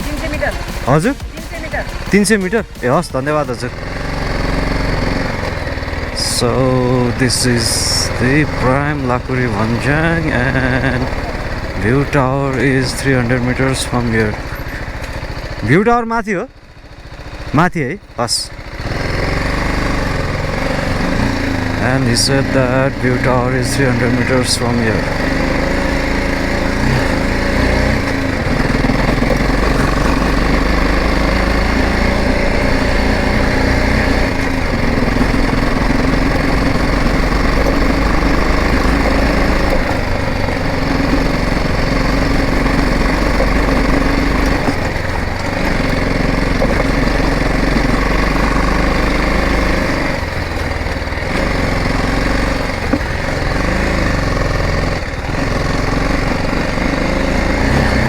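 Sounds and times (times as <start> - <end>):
motorcycle engine drone: 0.0 - 58.0.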